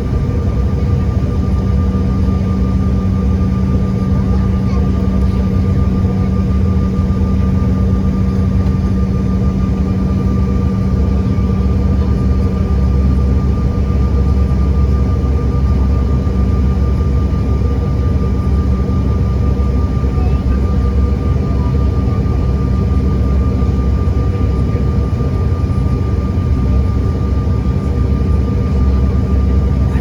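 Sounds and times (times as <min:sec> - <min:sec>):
airliner engine drone in cabin: 0:00.0 - 0:30.0.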